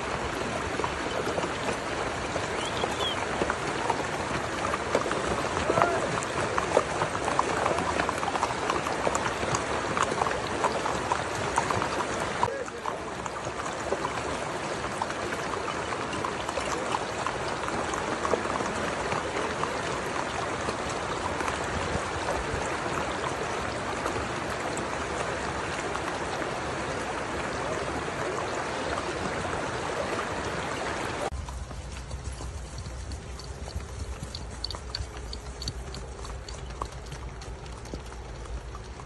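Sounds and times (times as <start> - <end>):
water rushing over rock: 0.0 - 31.4
small water splashes: 0.0 - 39.0.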